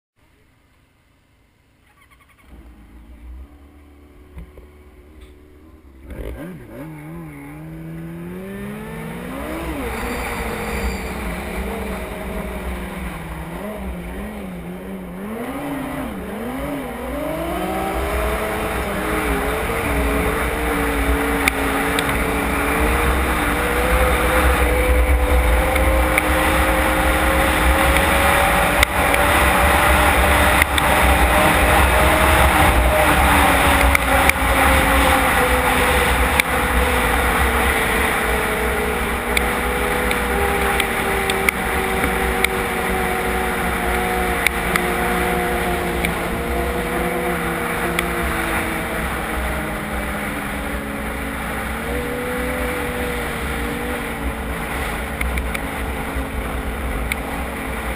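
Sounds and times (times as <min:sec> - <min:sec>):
snowmobile engine revving: 0:02.5 - 0:57.9.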